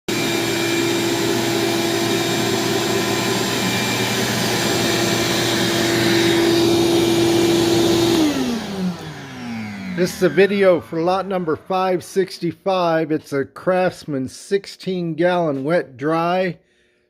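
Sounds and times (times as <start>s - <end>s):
shop vacuum running: 0.1s - 13.8s.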